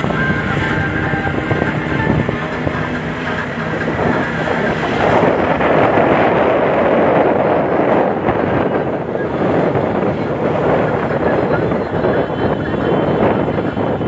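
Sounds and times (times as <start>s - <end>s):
vehicle engine and road noise: 0.0s - 14.0s
wind rushing over microphone: 0.0s - 14.0s.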